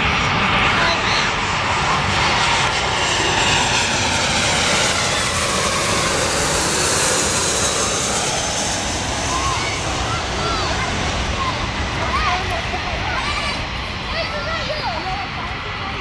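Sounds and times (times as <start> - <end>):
jet airliner roaring overhead: 0.0 - 16.0.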